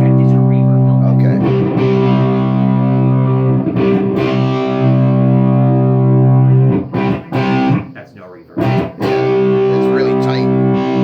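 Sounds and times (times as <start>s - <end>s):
distorted electric guitar chord: 0.0s - 7.8s, 8.6s - 11.0s.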